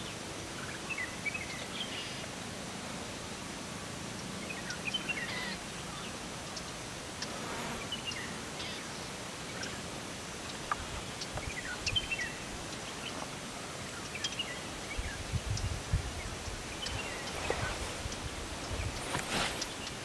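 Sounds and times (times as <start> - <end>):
rustle of leaves and branches: 0.0 - 20.0.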